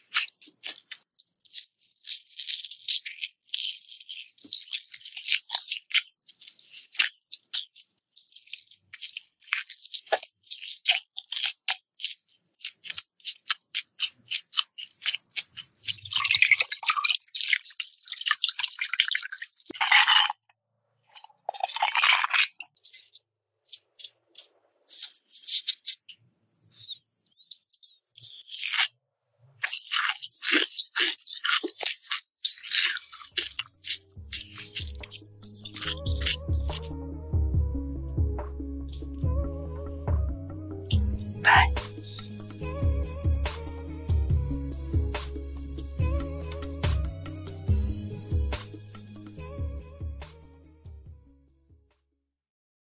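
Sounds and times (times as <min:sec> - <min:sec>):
chewing crunchy food: 0:00.0 - 0:37.4, 0:38.5 - 0:39.3, 0:40.8 - 0:48.8.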